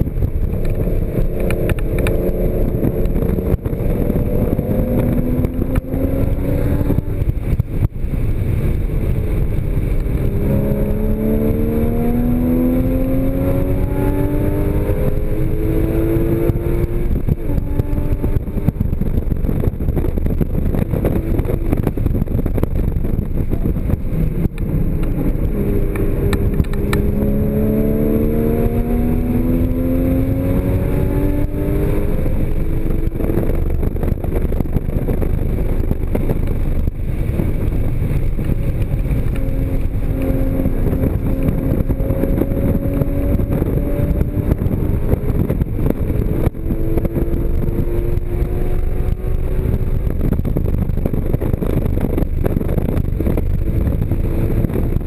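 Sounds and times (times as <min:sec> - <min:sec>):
car engine accelerating: 0:00.0 - 0:55.0
road and wind noise: 0:00.0 - 0:55.0.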